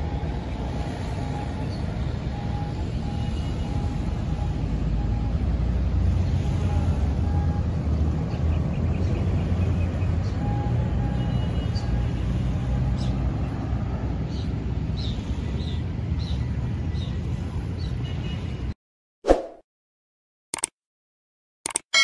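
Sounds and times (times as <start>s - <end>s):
road traffic rumble: 0.0s - 18.8s.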